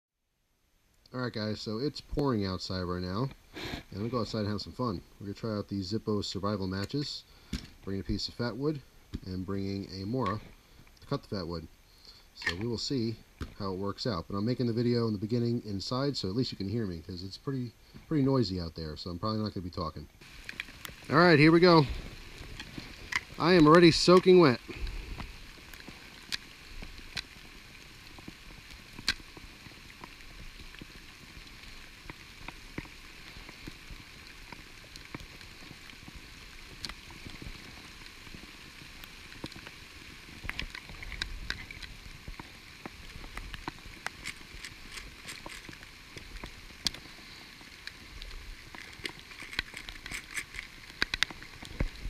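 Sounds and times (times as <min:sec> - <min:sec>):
rain hissing: 0:00.5 - 0:52.0
raindrops ticking nearby: 0:00.8 - 0:52.0.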